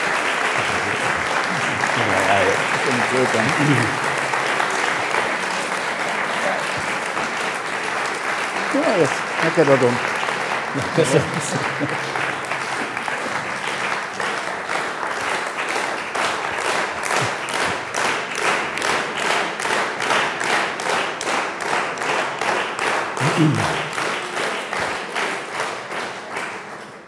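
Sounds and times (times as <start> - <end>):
audience applause: 0.0 - 27.0
rhythmic clapping in unison: 0.0 - 27.0.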